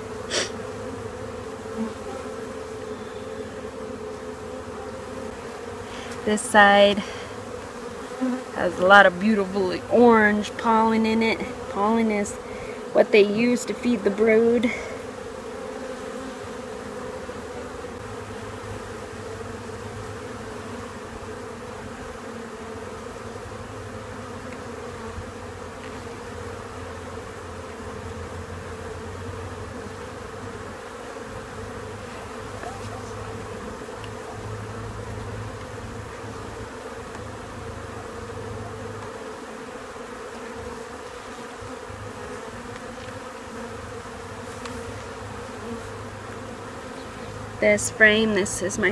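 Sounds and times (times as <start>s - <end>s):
honeybees buzzing: 0.0s - 48.9s.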